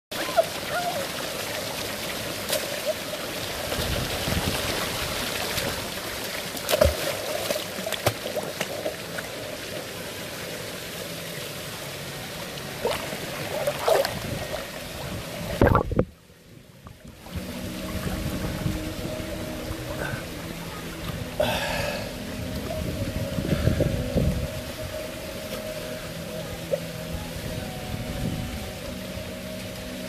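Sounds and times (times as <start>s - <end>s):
rain pattering on pool water: 0.1s - 30.0s.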